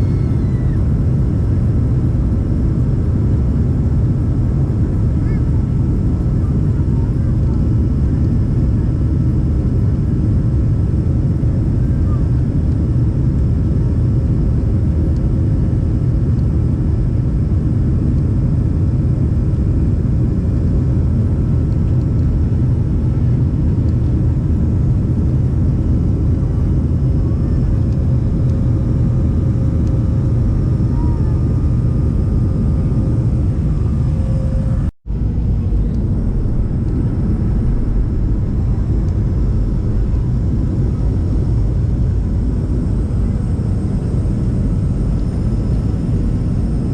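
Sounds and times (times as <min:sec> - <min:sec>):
airliner engines droning in cabin: 0:00.0 - 0:46.9.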